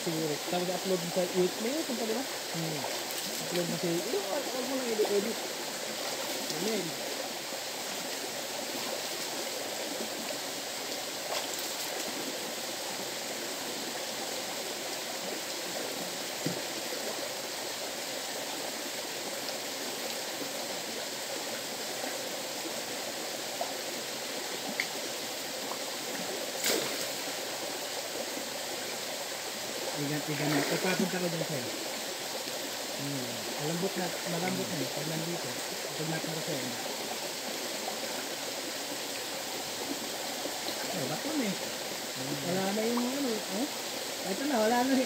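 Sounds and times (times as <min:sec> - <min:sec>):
river flowing: 0:00.0 - 0:45.0.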